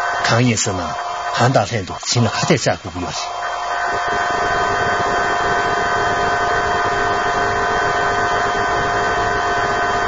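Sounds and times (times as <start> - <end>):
loud steady hum with hiss: 0.0 - 10.0.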